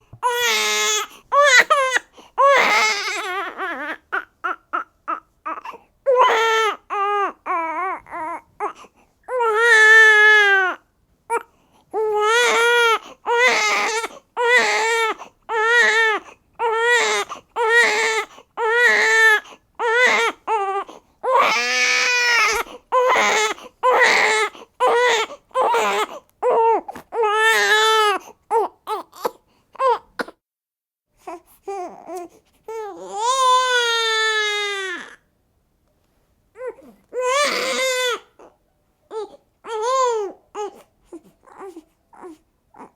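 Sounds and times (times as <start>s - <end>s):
newborn baby crying: 0.2s - 30.4s, 31.2s - 35.3s, 36.5s - 42.9s.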